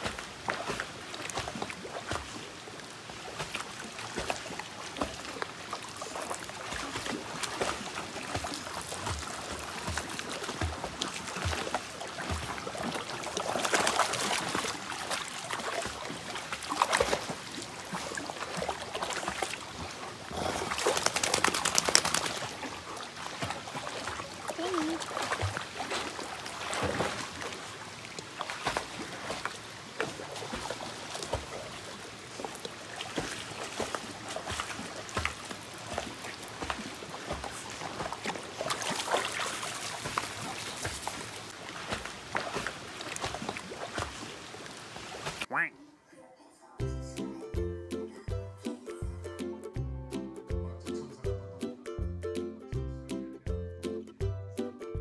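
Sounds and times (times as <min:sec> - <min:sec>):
dog splashing in water: 0:00.0 - 0:45.5
stream running water: 0:00.0 - 0:45.7.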